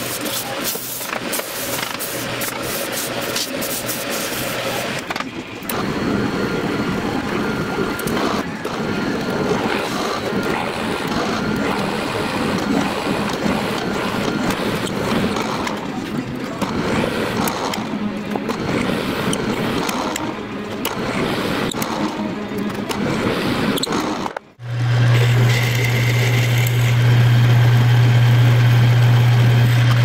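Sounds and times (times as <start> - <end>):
drill press boring wood: 0.0 - 30.0
wood lathe cutting: 0.0 - 30.0.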